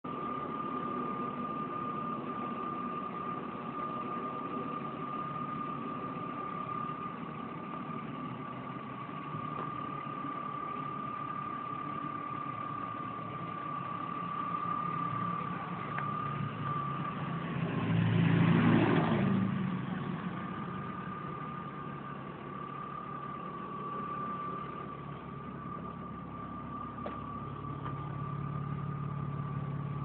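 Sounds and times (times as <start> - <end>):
car engine running: 0.0 - 30.0
high-pitched whistling whine: 0.0 - 30.0.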